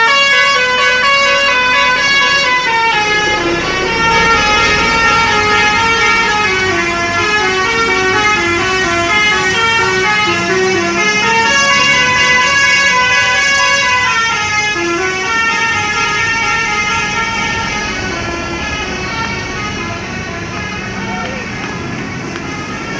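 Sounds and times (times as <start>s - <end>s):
multi-tone bus horn melody: 0.0s - 22.9s.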